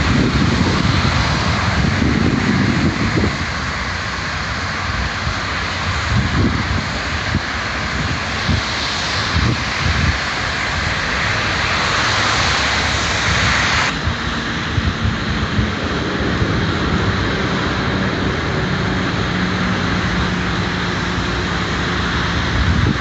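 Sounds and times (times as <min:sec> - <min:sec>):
distant traffic rumble: 0:00.0 - 0:23.0
tyres hissing on wet road: 0:00.0 - 0:23.0.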